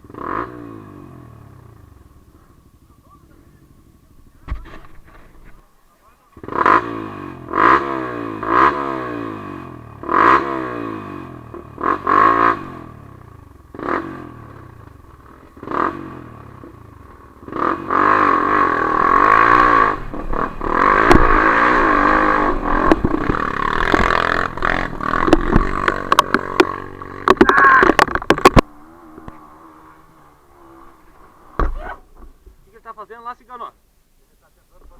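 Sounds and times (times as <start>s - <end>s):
motorcycle engine revving: 0.0s - 5.6s, 6.3s - 32.2s.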